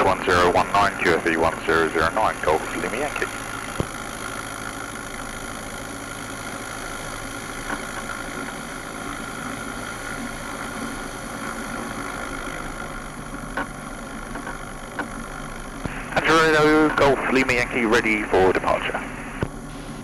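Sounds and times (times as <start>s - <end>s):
aircraft piston engine running: 0.0s - 20.0s.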